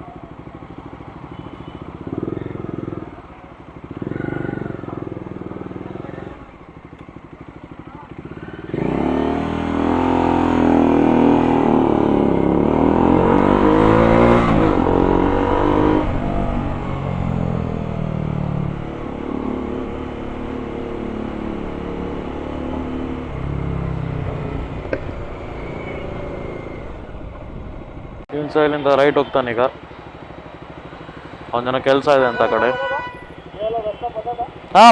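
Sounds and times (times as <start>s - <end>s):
motorcycle engine accelerating: 0.0s - 28.7s.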